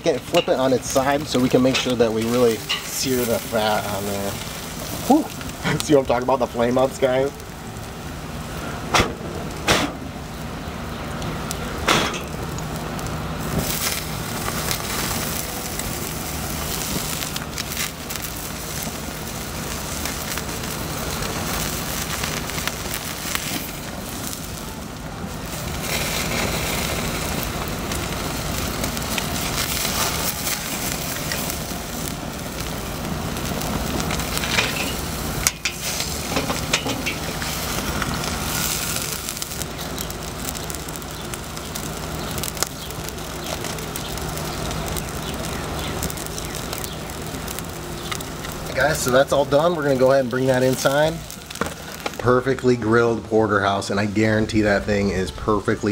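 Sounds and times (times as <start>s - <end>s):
fat popping on coals: 0.0s - 52.7s
charcoal flames roaring: 0.0s - 55.9s.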